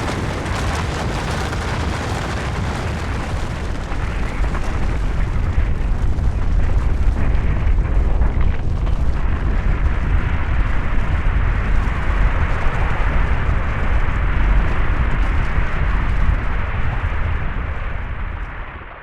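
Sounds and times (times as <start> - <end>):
avalanche deep rumble: 0.0 - 19.0.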